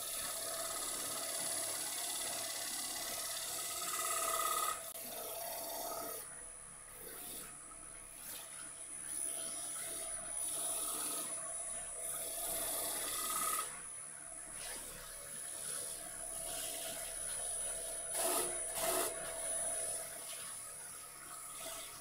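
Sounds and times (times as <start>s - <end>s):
wood lathe whine: 0.0s - 6.3s, 9.1s - 13.8s, 14.6s - 22.0s.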